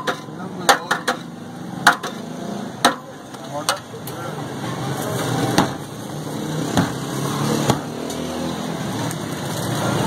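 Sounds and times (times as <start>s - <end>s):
busy street-food stall din: 0.0s - 10.0s
traffic: 0.0s - 10.0s.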